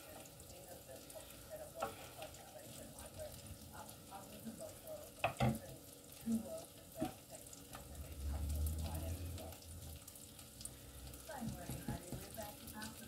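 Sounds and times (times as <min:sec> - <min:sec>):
food sizzling in pans: 0:00.0 - 0:13.0.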